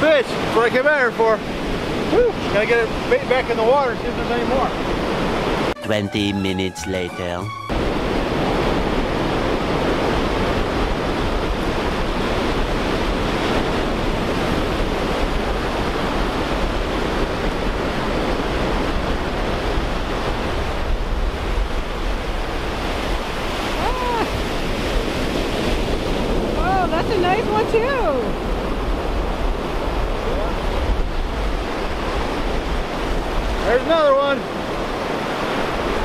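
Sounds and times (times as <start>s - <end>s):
ocean surf breaking: 0.3s - 5.8s, 7.1s - 36.0s.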